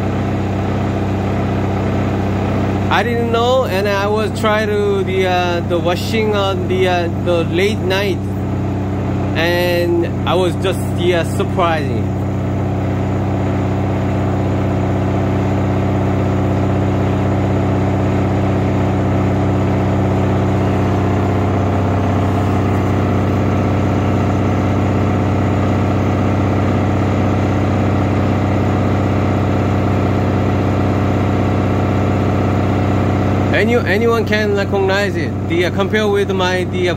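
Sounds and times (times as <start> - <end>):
washing machine humming: 0.0 - 36.9.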